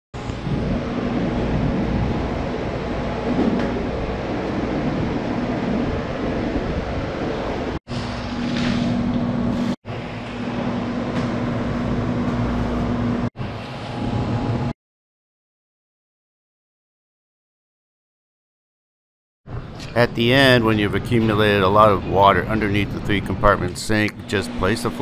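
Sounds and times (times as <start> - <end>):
electric fan running: 0.2 - 14.7, 19.5 - 25.0.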